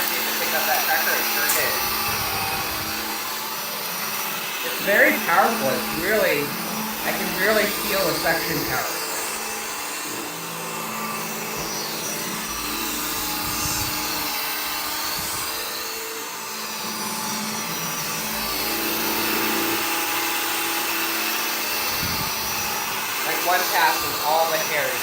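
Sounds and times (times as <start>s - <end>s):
vacuum cleaner on carpet: 0.0s - 25.0s.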